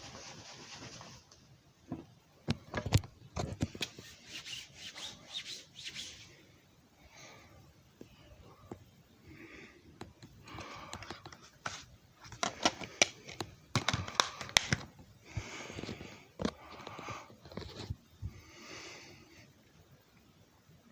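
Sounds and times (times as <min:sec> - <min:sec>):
rustling hiss: 0:03.6 - 0:20.9.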